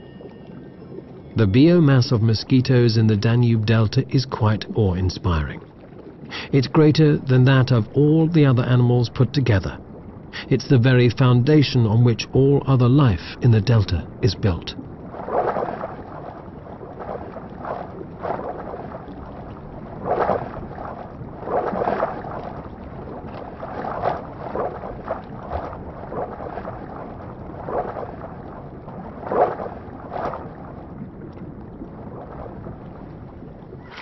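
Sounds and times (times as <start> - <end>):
steady rushing water: 0.0 - 34.0
water bubbling and sloshing: 0.0 - 34.0.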